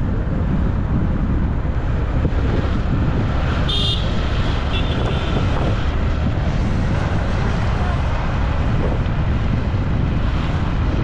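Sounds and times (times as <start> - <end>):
vehicle road noise: 0.0 - 11.0
wind buffeting microphone: 0.0 - 11.0.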